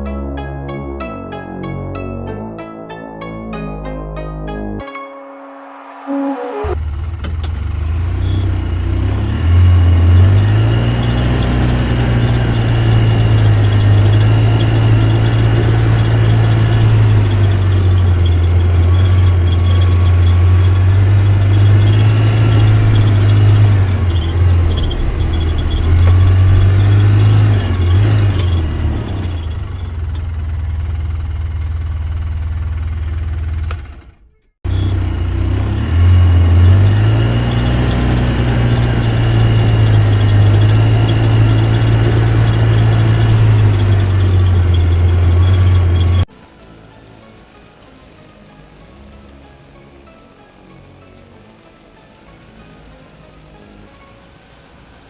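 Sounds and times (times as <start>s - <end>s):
vehicle engine running: 6.6s - 55.0s.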